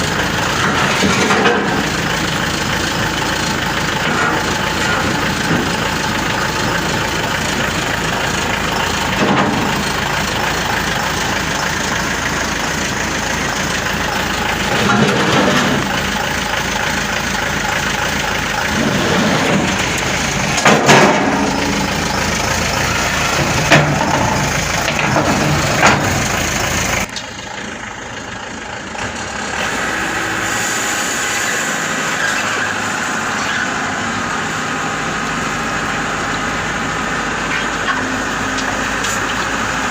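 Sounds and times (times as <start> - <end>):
combine harvester engine revving: 0.0 - 39.9.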